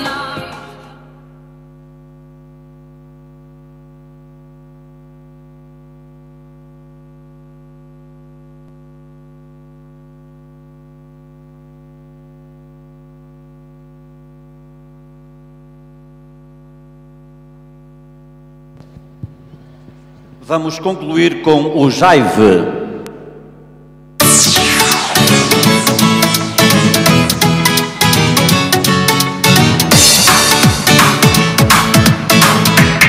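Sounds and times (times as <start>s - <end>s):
electrical mains hum: 0.0s - 32.4s.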